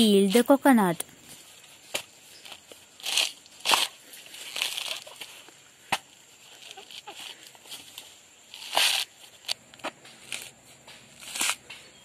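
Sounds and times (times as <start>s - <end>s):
coconut husk crunching and tearing: 1.8s - 12.0s.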